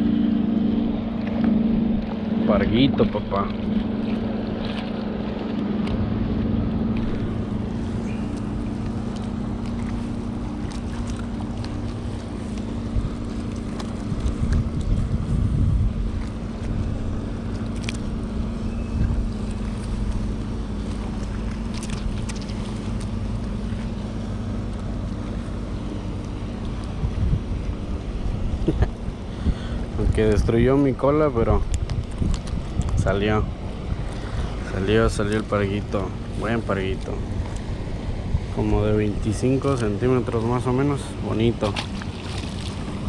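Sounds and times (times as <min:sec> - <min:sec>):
wind buffeting microphone: 0:00.0 - 0:22.4, 0:25.5 - 0:43.0
boat engine humming: 0:00.0 - 0:43.0.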